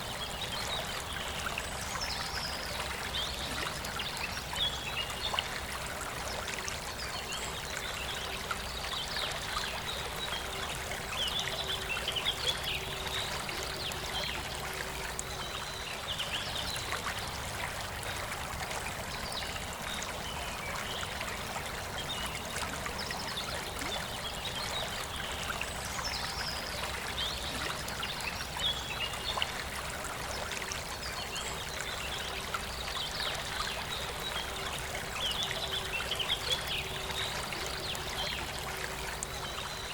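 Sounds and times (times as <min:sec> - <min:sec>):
forest river running: 0:00.0 - 0:39.9.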